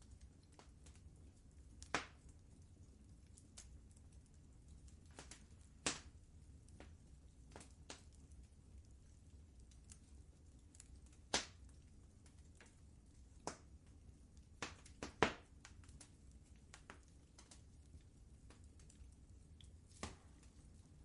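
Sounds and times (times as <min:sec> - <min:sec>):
low steady rumble: 0:00.0 - 0:14.6, 0:15.5 - 0:21.0
wood fire crackling: 0:00.0 - 0:21.0.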